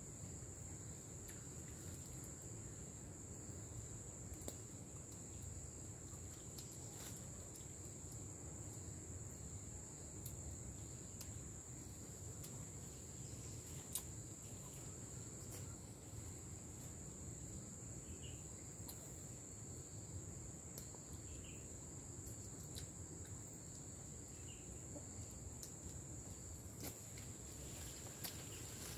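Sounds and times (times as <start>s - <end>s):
insects droning: 0.0s - 28.9s
outdoor background noise: 0.0s - 28.9s.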